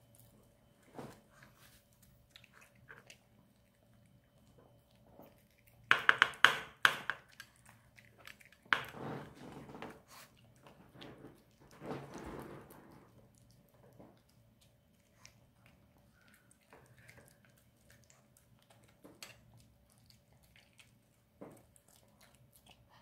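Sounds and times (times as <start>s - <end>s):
dog chewing: 0.0s - 23.0s.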